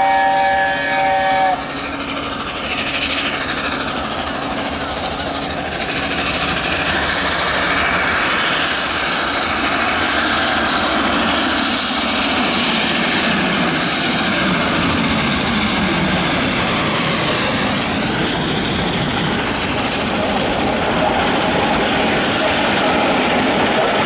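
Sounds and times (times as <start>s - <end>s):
steam locomotive exhaust rushing: 0.0s - 24.0s.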